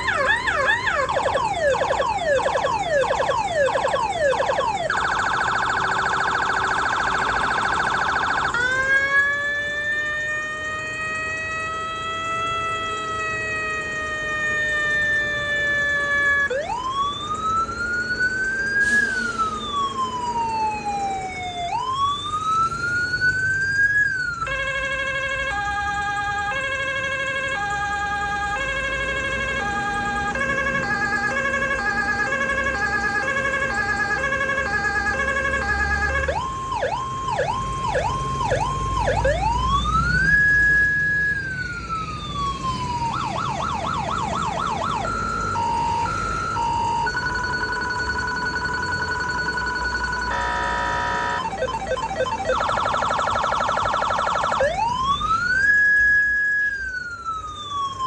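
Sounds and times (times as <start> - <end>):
electronic vehicle siren: 0.0 - 58.0.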